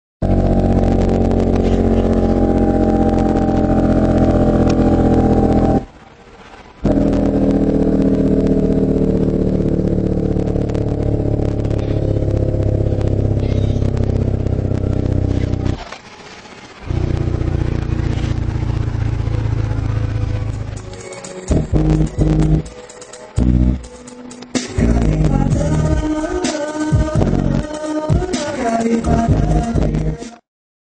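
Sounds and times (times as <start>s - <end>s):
subwoofers playing bass tone: 0.2s - 6.0s, 6.8s - 15.9s, 16.8s - 30.3s.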